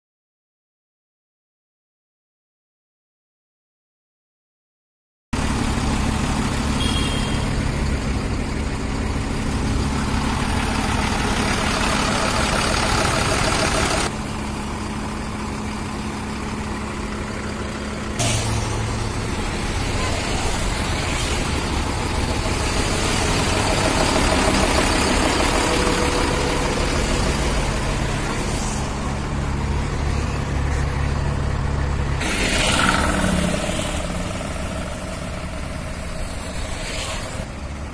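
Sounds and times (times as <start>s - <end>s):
diesel truck engine idling: 5.4s - 37.9s.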